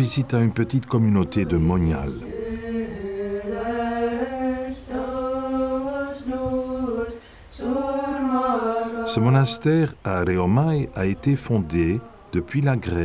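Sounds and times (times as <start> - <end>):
voices chanting in unison: 0.0 - 13.0.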